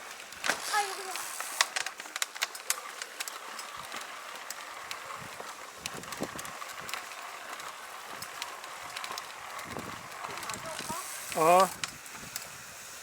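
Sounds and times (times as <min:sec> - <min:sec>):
bicycle tyres hissing on trail: 0:00.0 - 0:13.0
bike clicks and rattles: 0:00.0 - 0:13.0.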